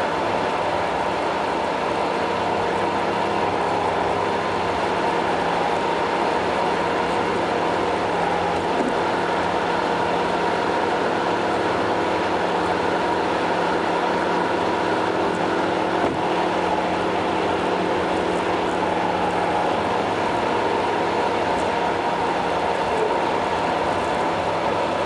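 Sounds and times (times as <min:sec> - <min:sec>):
engine hum: 0:00.0 - 0:25.0
tyres rushing on road: 0:00.0 - 0:25.0.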